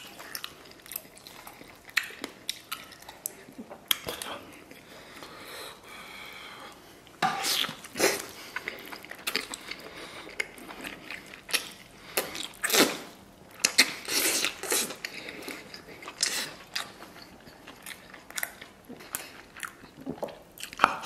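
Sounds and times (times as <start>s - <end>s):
chewing and smacking: 0.0s - 4.8s, 7.4s - 21.0s.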